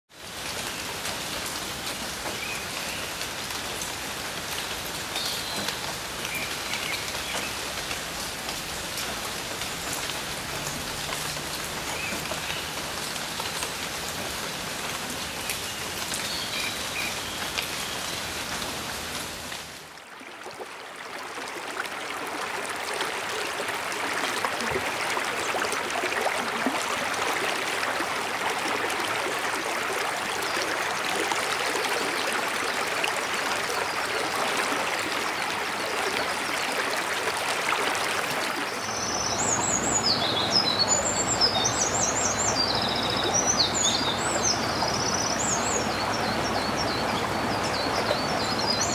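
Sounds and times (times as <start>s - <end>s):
rain falling: 0.1s - 48.9s
stream running water: 0.1s - 48.9s.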